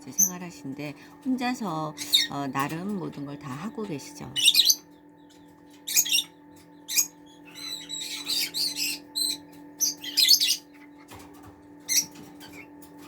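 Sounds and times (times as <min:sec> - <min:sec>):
chicks peeping: 0:00.0 - 0:13.0
steady low hum: 0:00.0 - 0:13.0.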